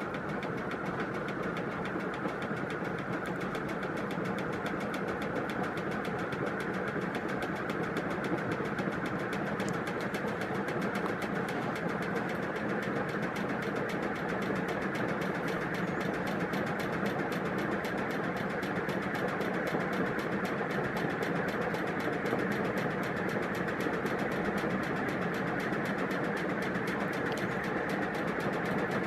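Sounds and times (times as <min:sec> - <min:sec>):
ceiling fan humming and ticking: 0:00.0 - 0:29.0.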